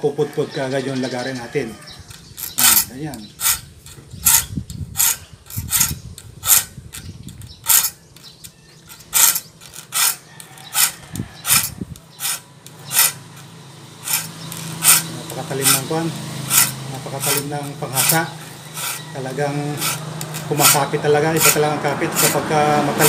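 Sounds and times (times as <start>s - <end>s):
file rasping on saw teeth: 2.2s - 8.0s, 8.8s - 23.0s.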